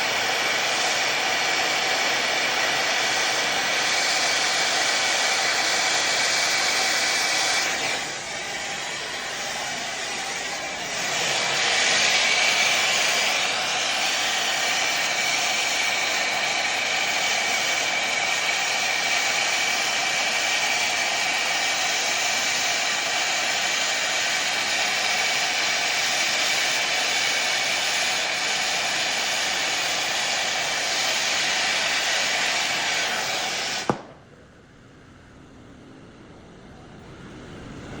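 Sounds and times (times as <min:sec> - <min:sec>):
torch flame hissing: 0:00.0 - 0:34.3
torch shutoff click: 0:00.0 - 0:34.3.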